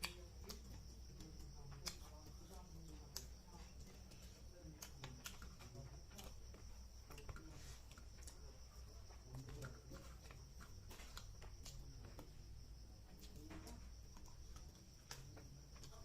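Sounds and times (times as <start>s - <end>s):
mouth chewing clicks and smacks: 0.0s - 16.0s.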